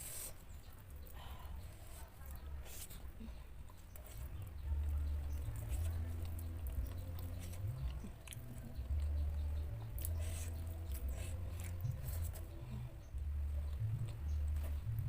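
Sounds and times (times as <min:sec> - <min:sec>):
chewing leafy greens: 0:00.0 - 0:15.0.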